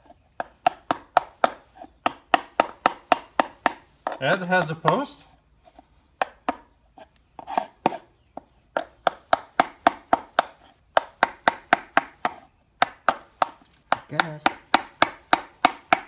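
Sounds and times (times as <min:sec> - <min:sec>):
hammer tapping chisel handle: 0:00.4 - 0:05.3, 0:06.2 - 0:06.7, 0:07.4 - 0:16.0.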